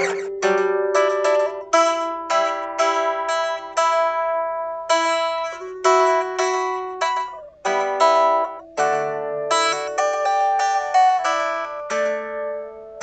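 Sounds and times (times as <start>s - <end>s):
solo guitar picked notes and chords: 0.0s - 13.0s.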